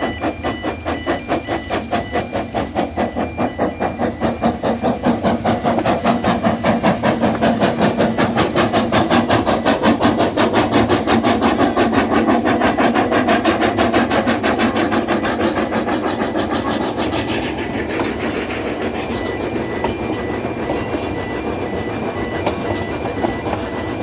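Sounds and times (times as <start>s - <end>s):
faint beeping tone: 0.0s - 9.4s, 13.6s - 24.0s
train passing over crossing: 0.0s - 24.0s.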